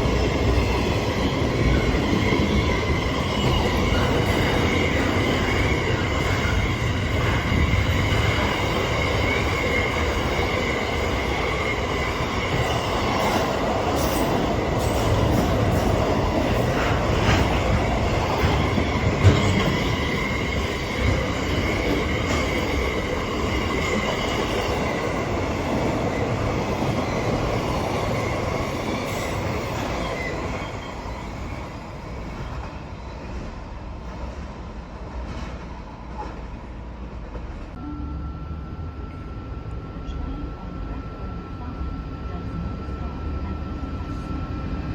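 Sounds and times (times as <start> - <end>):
train rumbling: 0.0 - 44.9.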